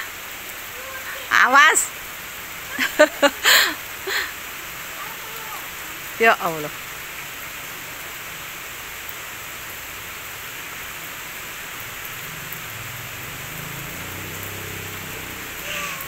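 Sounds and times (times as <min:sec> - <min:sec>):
heavy rain on wet road: 0:00.0 - 0:16.0.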